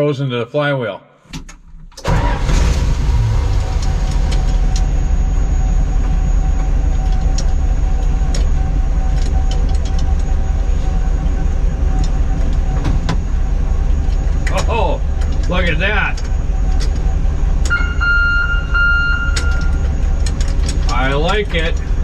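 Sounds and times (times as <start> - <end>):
snow vehicle engine starting and running: 2.0 - 22.0.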